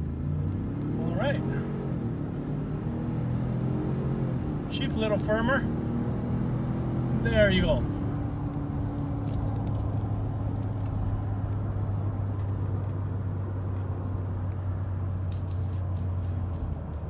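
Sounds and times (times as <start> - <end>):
car engine and tyres droning: 0.0 - 17.0.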